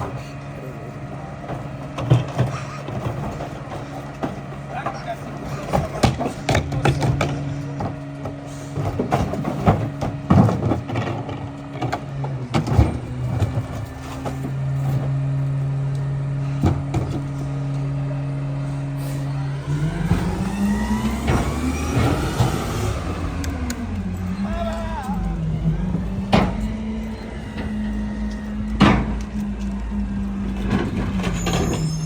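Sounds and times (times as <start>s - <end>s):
trash knocking and clattering: 0.0s - 15.7s, 16.3s - 32.0s
garbage truck diesel engine: 0.0s - 32.0s.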